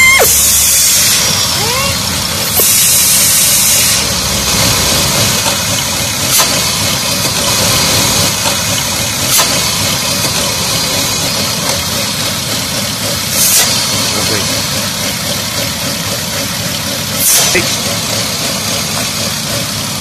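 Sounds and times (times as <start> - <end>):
car engine idling roughly: 0.0 - 20.0.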